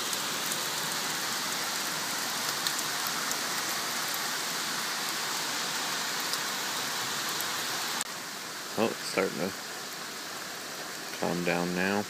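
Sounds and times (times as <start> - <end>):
heavy rain pouring: 0.0 - 12.0
raindrops ticking close by: 0.0 - 12.0.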